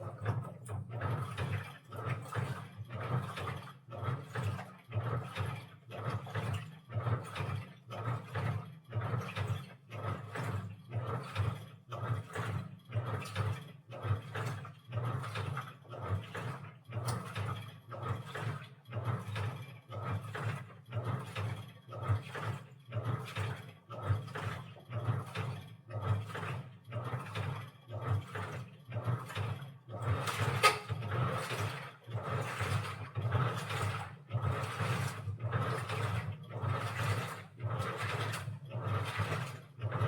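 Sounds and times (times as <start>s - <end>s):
washing machine drum churning: 0.0s - 40.0s.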